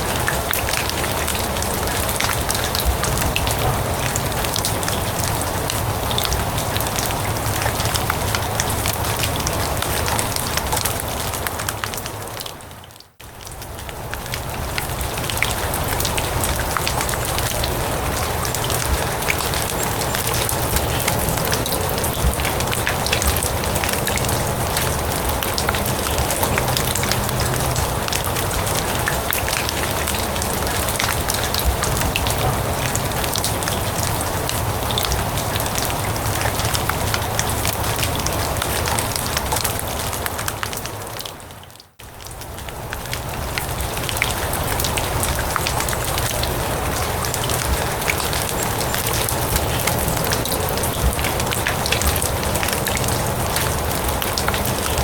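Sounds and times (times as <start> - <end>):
rain on grass and leaves: 0.0 - 55.0.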